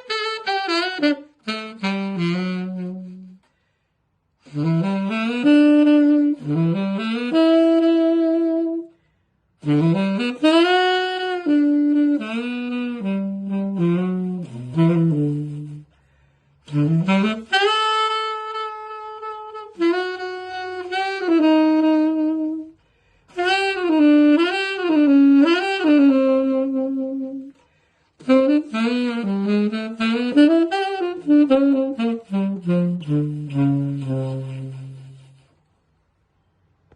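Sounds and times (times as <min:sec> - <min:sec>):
solo jazz tenor saxophone: 0:00.0 - 0:36.0.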